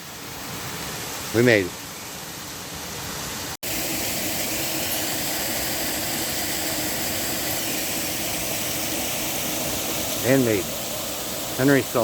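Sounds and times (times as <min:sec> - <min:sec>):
water pouring over dam waterfall: 0:00.0 - 0:12.0.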